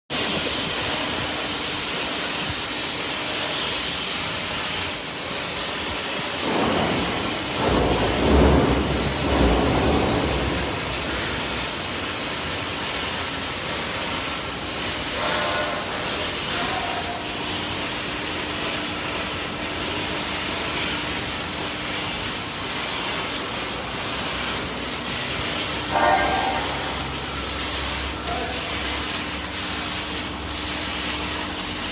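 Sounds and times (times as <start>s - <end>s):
hissing machinery noise: 0.1s - 31.9s.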